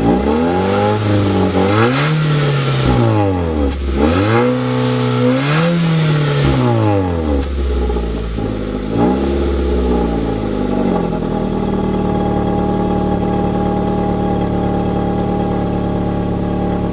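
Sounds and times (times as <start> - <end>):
car engine revving and idling: 0.0 - 16.9.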